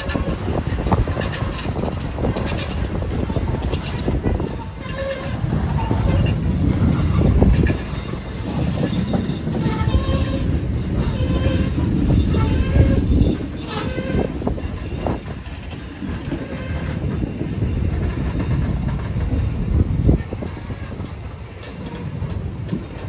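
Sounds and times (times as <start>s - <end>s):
train rumbling: 0.0s - 23.0s
wheels clicking over rail joints: 0.0s - 23.0s
wheels squealing: 0.0s - 23.0s.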